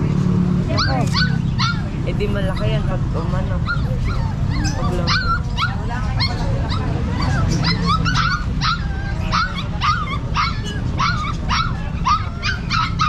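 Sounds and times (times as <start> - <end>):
puppies yipping and whimpering: 0.7 - 13.0.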